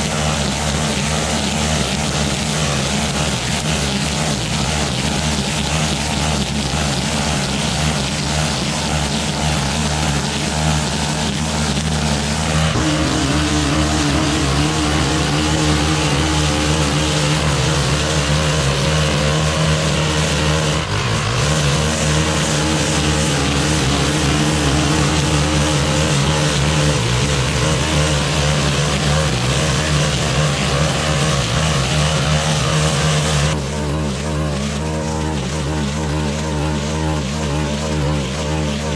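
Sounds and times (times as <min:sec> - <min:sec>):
brushcutter engine running: 0:00.0 - 0:38.9
hiss of cut grass: 0:00.0 - 0:38.9.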